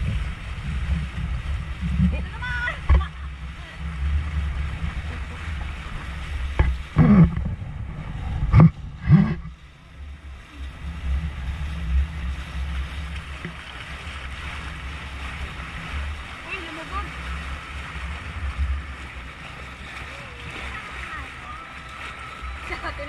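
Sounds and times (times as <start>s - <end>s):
wind buffeting microphone: 0.0s - 19.3s
water rushing along boat: 0.0s - 23.0s.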